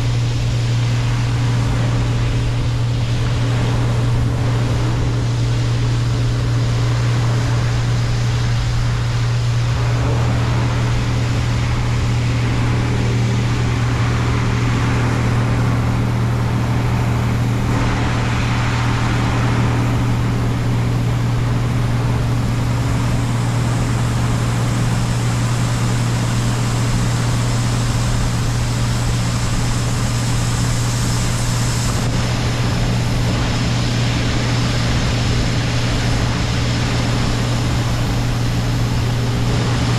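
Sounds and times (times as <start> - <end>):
diesel engine droning: 0.0 - 39.9
steady rushing noise: 0.0 - 39.9.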